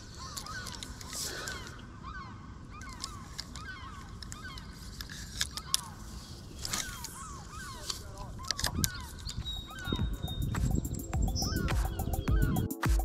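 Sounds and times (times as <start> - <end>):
flock of birds calling: 0.0 - 10.8, 11.4 - 12.7.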